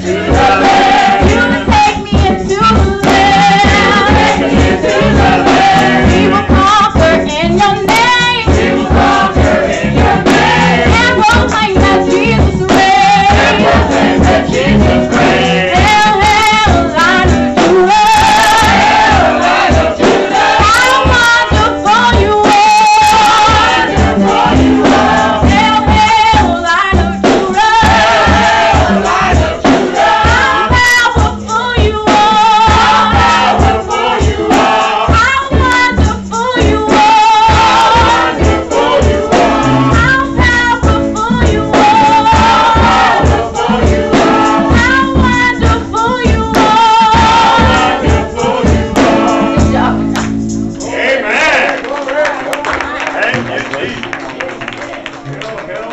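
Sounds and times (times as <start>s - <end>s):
woman singing into microphone: 0.0s - 9.5s, 10.2s - 19.2s, 20.6s - 50.1s
children's choir singing: 0.0s - 16.9s, 17.7s - 21.8s, 22.8s - 25.9s, 27.3s - 31.2s, 32.1s - 35.4s, 36.6s - 40.4s, 41.4s - 50.1s, 50.8s - 51.8s
live accompaniment with beat: 0.0s - 55.9s.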